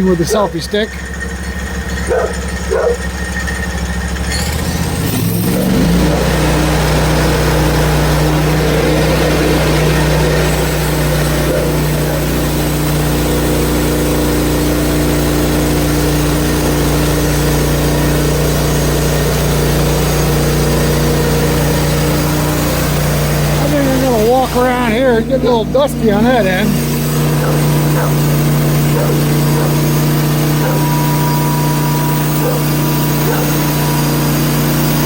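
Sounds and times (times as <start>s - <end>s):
sawmill engine running: 0.0s - 35.0s
band blade sawing log: 4.6s - 35.0s.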